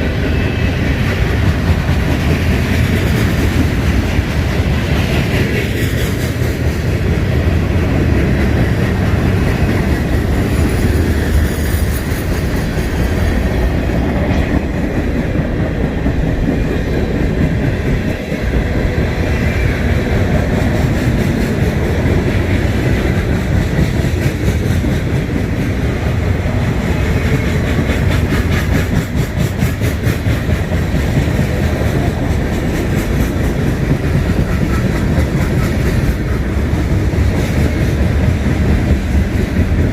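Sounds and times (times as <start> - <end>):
train rumbling past: 0.0 - 39.9
wheels clacking over rail joints: 0.0 - 39.9.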